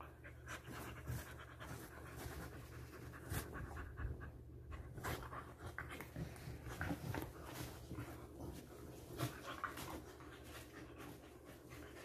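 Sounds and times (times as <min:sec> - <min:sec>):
dog panting: 0:00.0 - 0:12.0
dogs wrestling on bedspread: 0:00.0 - 0:12.0.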